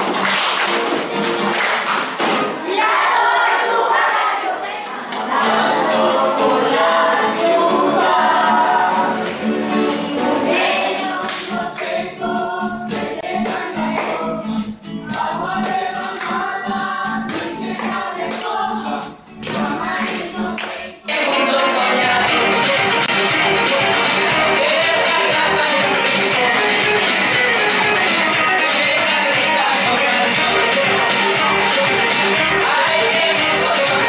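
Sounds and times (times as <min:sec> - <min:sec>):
children singing together: 0:02.4 - 0:34.0
rhythmic accompaniment of short strokes: 0:05.3 - 0:34.0.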